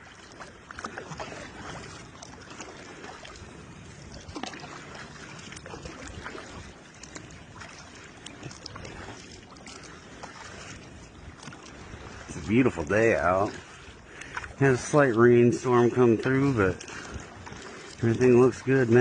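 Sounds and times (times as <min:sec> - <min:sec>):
water lapping against hull: 0:00.0 - 0:19.0.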